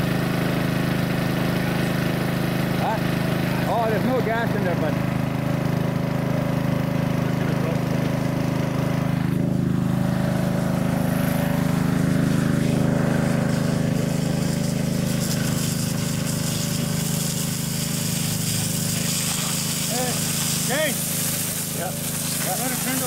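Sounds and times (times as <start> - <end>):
small gasoline pump engine running: 0.0 - 23.0.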